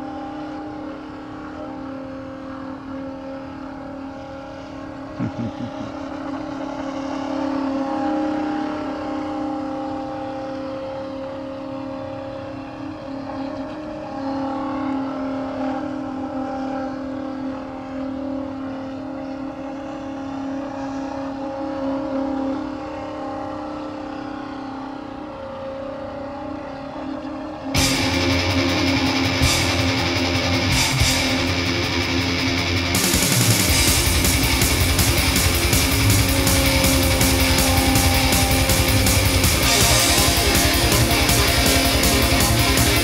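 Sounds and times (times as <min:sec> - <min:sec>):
electric motor whine: 0:00.0 - 0:43.0.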